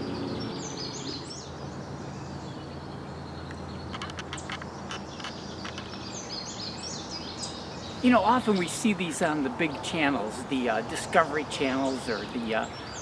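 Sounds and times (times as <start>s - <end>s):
small birds calling: 0.0s - 13.0s.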